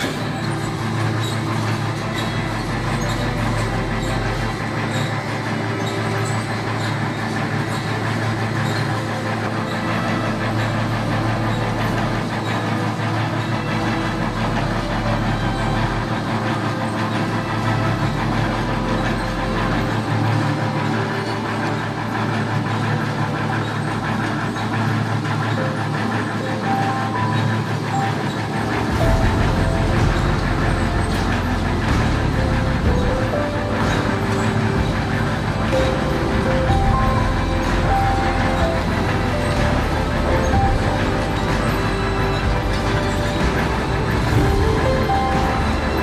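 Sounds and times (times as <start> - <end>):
brick extruder mechanical drone: 0.0 - 46.0
electric motor hum: 0.0 - 46.0.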